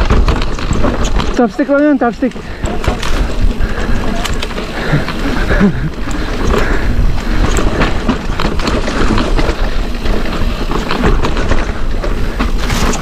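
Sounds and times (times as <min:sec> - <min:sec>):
bike rattling over rocks: 0:00.0 - 0:13.0
wind noise on microphone: 0:02.4 - 0:13.0.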